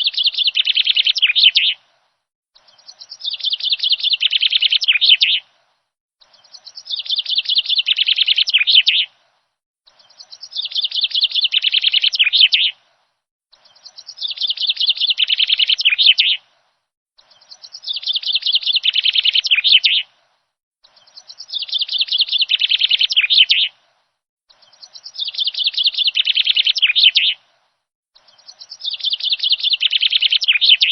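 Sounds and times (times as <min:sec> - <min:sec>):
songbird singing: 0:00.0 - 0:01.8, 0:02.6 - 0:09.2, 0:09.9 - 0:12.9, 0:13.5 - 0:16.5, 0:17.2 - 0:20.2, 0:20.8 - 0:30.9.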